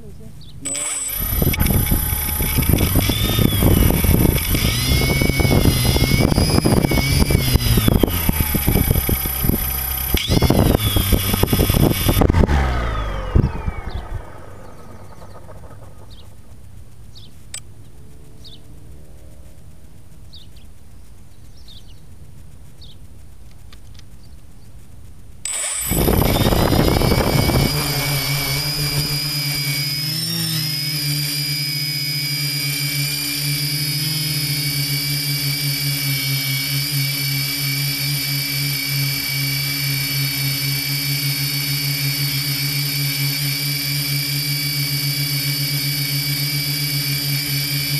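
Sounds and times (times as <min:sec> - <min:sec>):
drone propellers whining: 0:00.0 - 0:20.1, 0:25.4 - 0:47.9.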